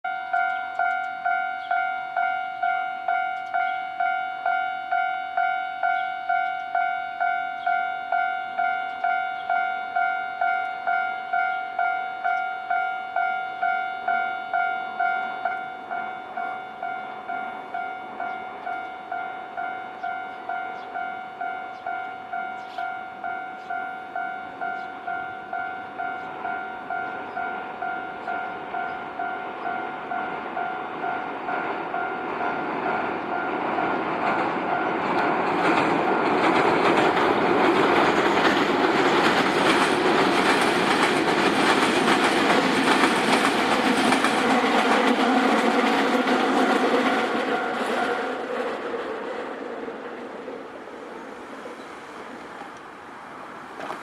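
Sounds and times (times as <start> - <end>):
train wheels on rails: 0.1 - 54.0.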